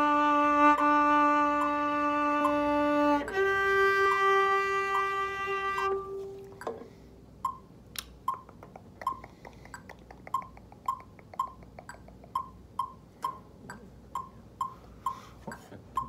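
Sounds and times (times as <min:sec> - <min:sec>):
metronome ticking: 0:00.0 - 0:16.0.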